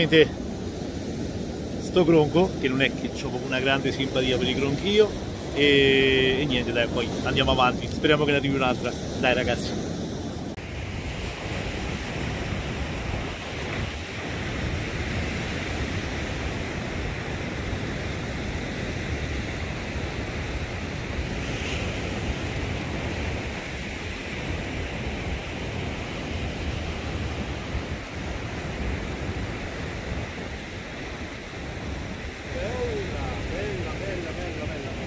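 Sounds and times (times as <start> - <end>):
waves breaking on beach: 0.0 - 35.0
wind on microphone: 0.0 - 35.0.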